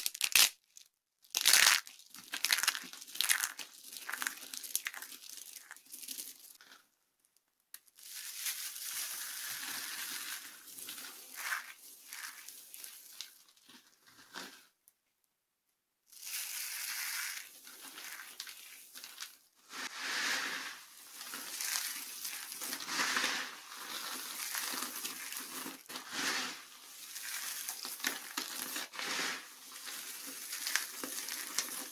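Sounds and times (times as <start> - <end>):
dry soap crunching: 0.0 - 6.8, 8.0 - 14.6, 16.2 - 19.4, 20.3 - 31.9.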